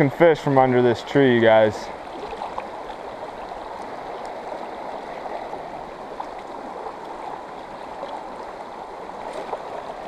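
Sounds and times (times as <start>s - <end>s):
river water rushing over rocks: 1.5s - 10.0s.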